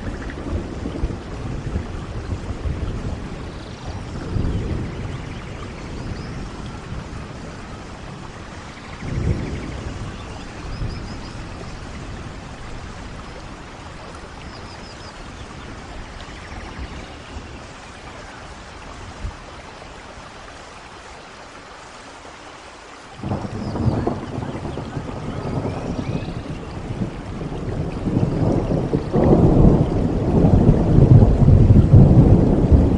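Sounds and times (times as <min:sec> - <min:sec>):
thunder rumbling: 0:00.0 - 0:19.5, 0:23.2 - 0:32.9
steady rain falling: 0:00.0 - 0:32.9.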